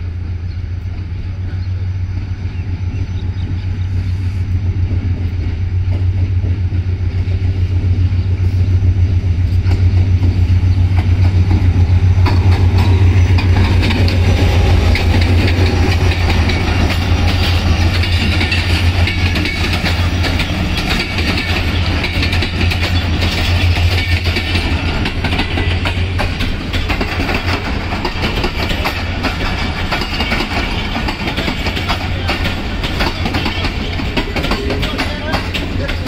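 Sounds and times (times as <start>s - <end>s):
train rumbling on tracks: 0.0s - 36.0s.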